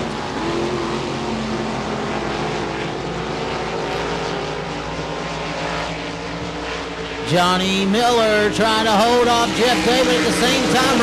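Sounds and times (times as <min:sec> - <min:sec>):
race cars engines droning: 0:00.0 - 0:11.0.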